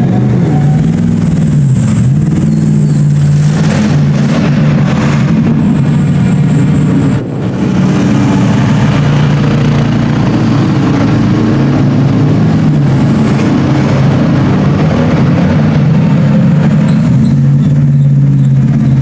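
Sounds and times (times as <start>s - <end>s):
racing car engines revving: 0.0s - 19.0s.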